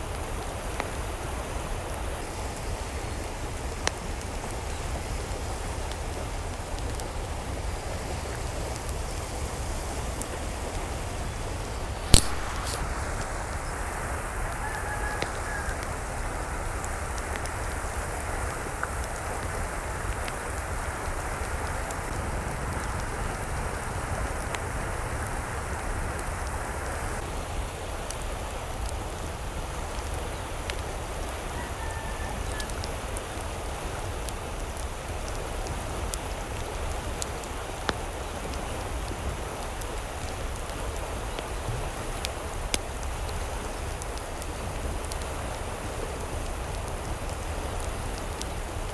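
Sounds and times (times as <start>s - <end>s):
rushing water: 0.0s - 48.9s.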